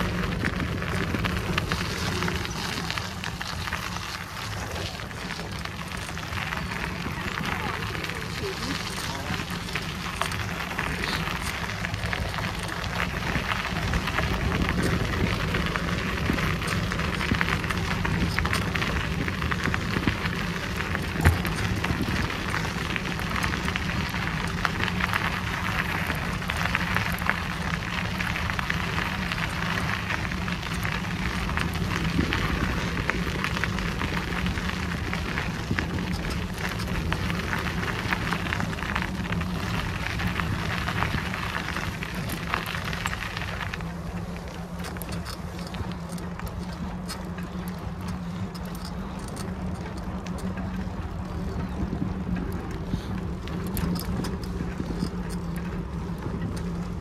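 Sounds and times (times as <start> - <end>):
bicycle tyres rolling on gravel: 0.0 - 57.0.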